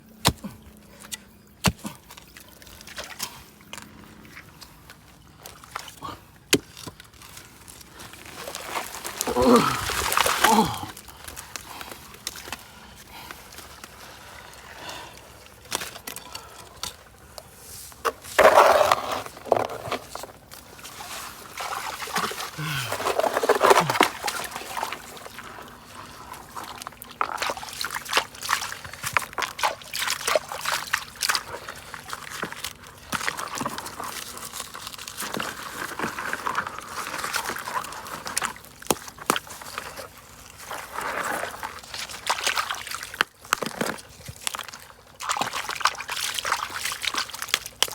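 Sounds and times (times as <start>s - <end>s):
water sloshing and trickling: 0.0s - 47.9s
wet sand and gravel scraping: 0.2s - 47.9s.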